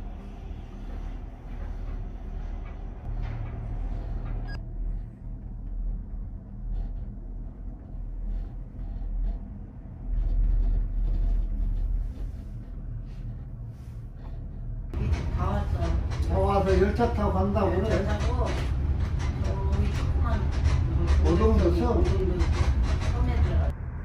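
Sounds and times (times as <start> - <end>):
cable car rumble and hum: 0.0 - 24.0.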